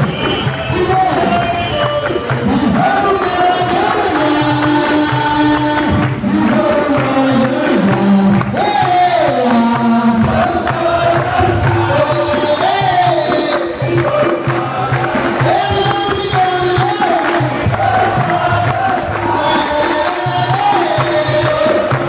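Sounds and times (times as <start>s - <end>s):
pandeiro: 0.0s - 22.0s
voices singing together: 0.0s - 22.0s.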